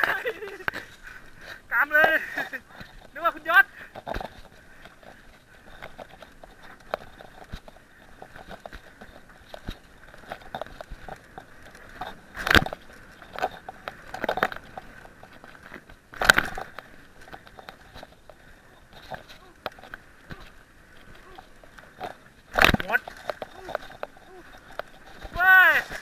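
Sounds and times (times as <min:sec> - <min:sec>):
bike rattling and knocking: 0:00.0 - 0:26.0
tyres crackling over dry leaves: 0:00.0 - 0:26.0.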